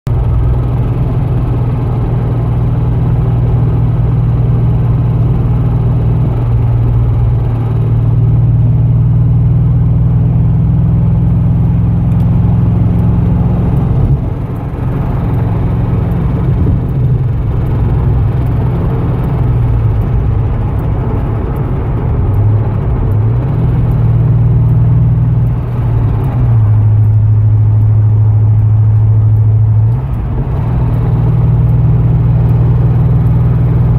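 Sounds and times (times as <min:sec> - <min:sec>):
car engine idling: 0:00.1 - 0:33.9
engine ticking: 0:00.1 - 0:33.9.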